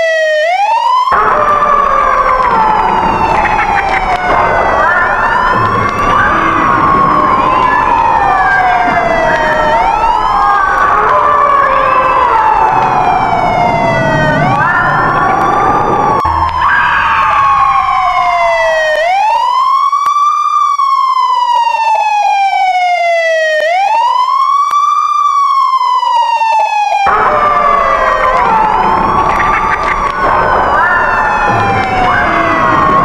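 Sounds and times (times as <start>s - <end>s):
overlapping siren tones: 0.0s - 33.0s
siren wailing: 0.0s - 33.0s.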